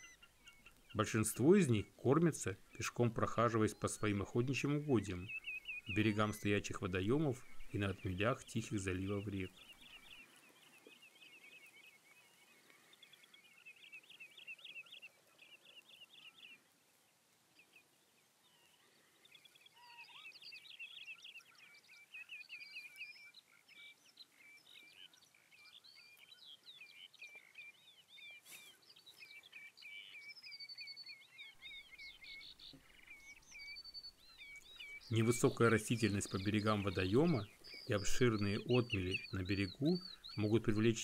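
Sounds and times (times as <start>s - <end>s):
birds whistling: 0.0s - 16.6s, 19.3s - 41.0s.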